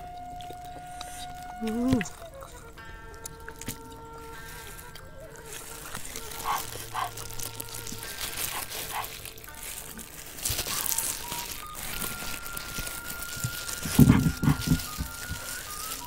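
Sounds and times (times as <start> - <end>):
plastic glove crinkling: 0.0 - 16.0
wet tearing of meat: 0.1 - 16.0.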